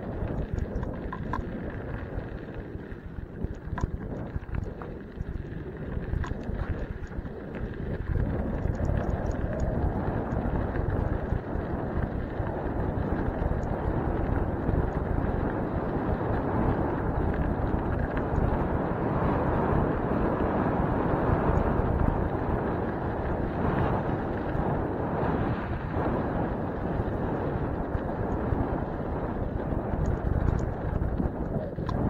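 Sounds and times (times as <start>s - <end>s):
faint ticks and rattles: 0.0s - 32.0s
wind rumble on microphone: 0.0s - 32.0s.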